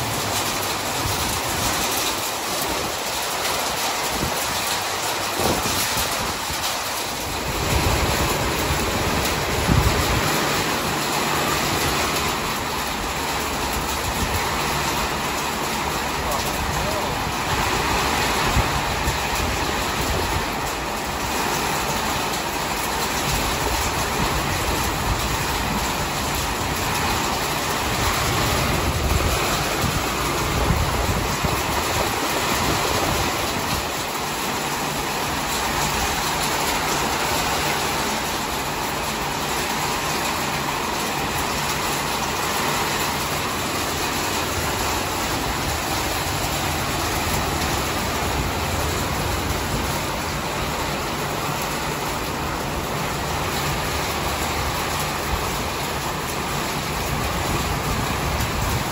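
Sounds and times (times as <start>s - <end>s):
gusting wind rumbling: 0.0s - 58.9s
hail and heavy rain pelting: 0.0s - 58.9s.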